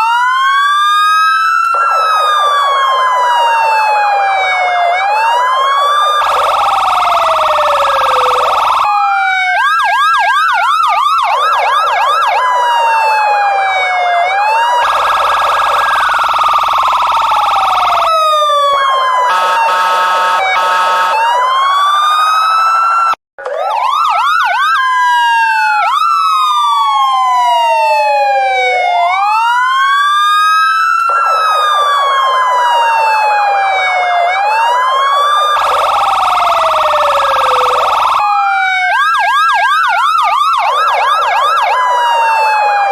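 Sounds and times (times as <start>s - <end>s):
police siren wailing and yelping: 0.0s - 42.9s.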